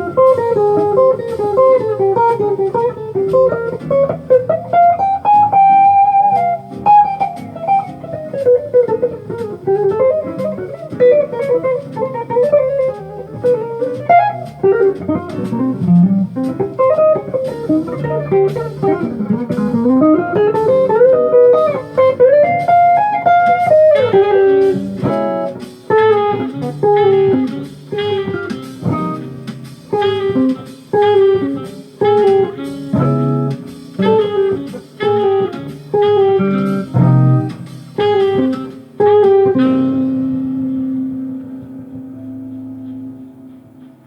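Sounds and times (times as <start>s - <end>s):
jazz guitar playing: 0.0s - 44.0s.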